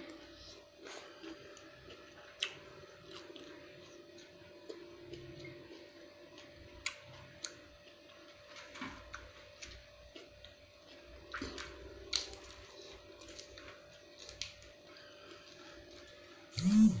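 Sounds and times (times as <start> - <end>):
faint steady hum: 0.0 - 17.0
chewing and mouth sounds: 0.1 - 17.0.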